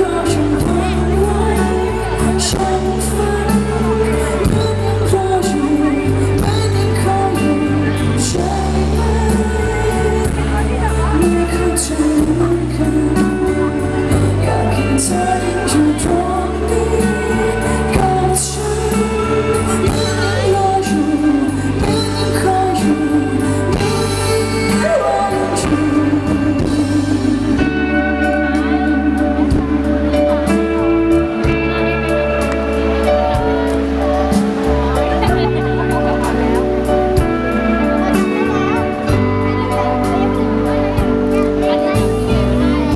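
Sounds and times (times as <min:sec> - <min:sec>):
pop band with bass and drums: 0:00.0 - 0:42.9
woman singing: 0:00.0 - 0:42.9.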